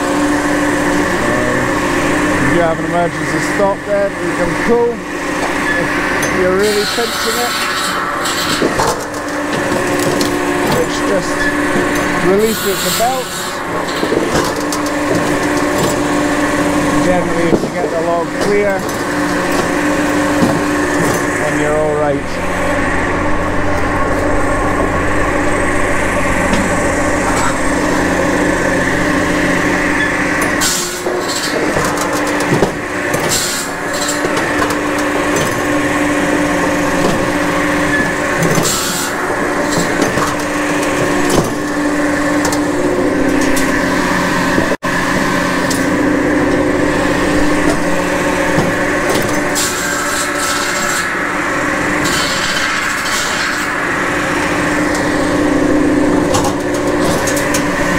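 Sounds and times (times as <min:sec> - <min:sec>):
firewood processor humming: 0:00.0 - 0:57.9.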